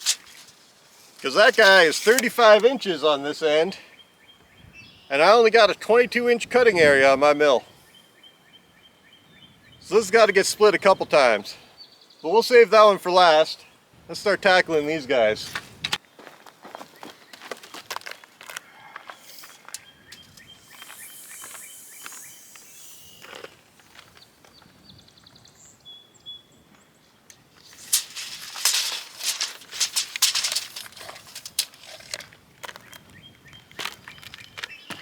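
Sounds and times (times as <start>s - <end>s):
birds chirping: 0.0s - 6.2s, 7.1s - 35.0s.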